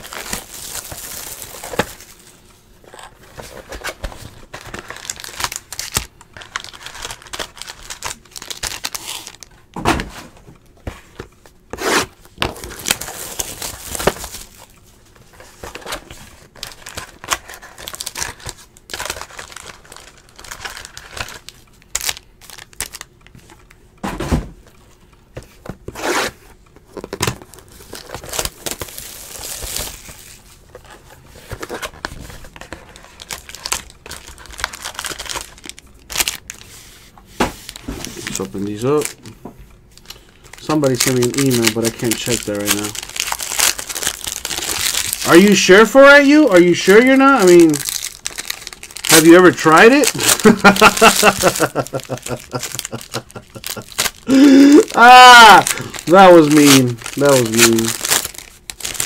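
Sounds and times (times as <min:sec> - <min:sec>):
plastic wrap and cardboard tearing: 0:00.0 - 0:09.5, 0:11.7 - 0:23.1, 0:25.9 - 0:36.8, 0:37.6 - 0:39.2, 0:40.0 - 0:59.0.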